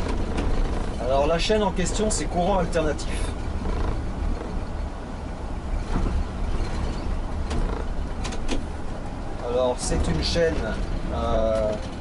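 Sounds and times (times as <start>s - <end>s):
diesel engine rumbling: 0.0s - 12.0s
road noise: 0.0s - 12.0s.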